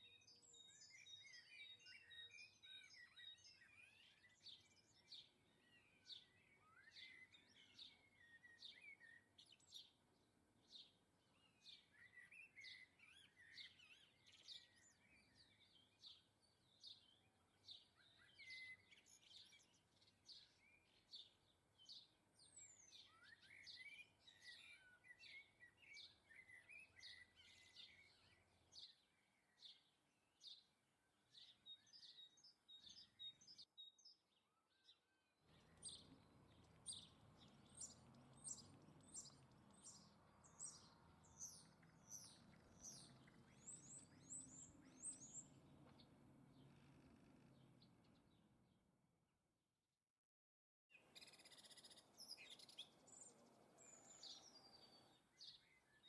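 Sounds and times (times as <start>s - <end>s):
small birds chirping: 0.0s - 49.0s, 50.9s - 56.0s.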